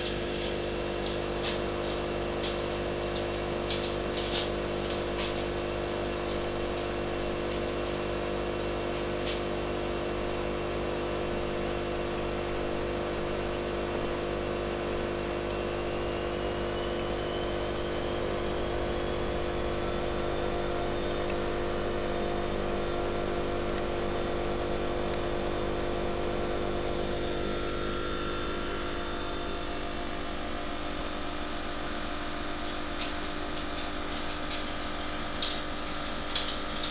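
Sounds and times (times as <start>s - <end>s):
aquarium filter pump hum: 0.0s - 36.9s
faint high whine: 0.0s - 36.9s.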